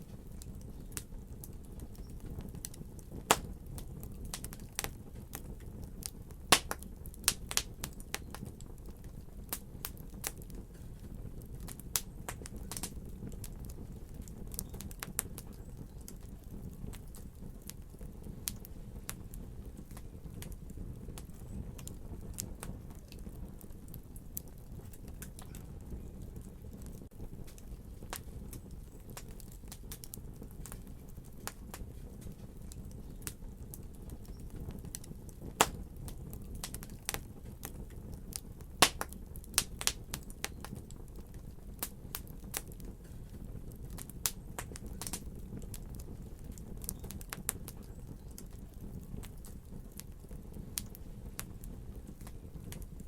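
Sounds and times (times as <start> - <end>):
fire crackling and popping: 0.0 - 53.0
low fire rumble: 0.0 - 53.0.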